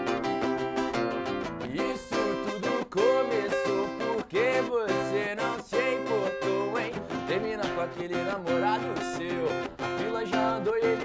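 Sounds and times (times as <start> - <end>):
lead guitar bent notes: 0.0 - 11.0
strummed guitar chords: 0.0 - 11.0.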